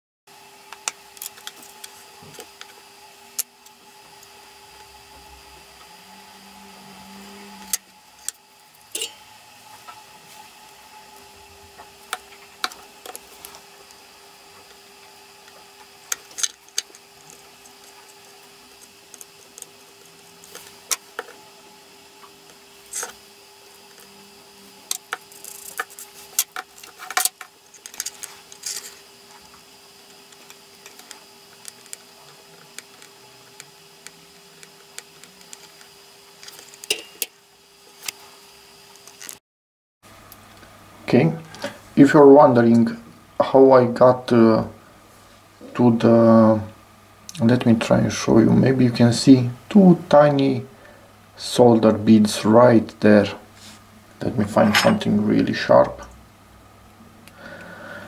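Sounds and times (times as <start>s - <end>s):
faint steady hum: 0.3s - 39.3s, 40.1s - 58.0s.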